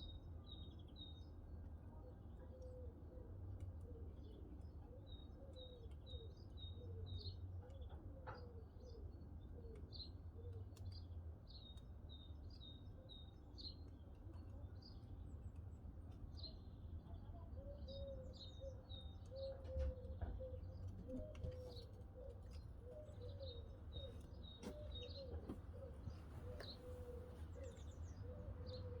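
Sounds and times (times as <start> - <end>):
small birds chirping: 4.0 - 29.0.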